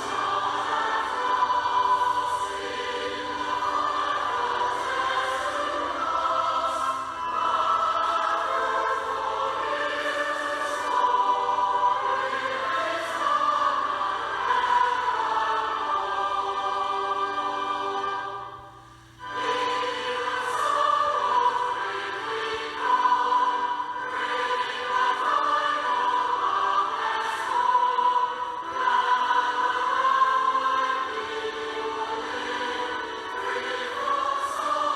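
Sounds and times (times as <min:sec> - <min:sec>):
choir singing: 0:00.0 - 0:34.9.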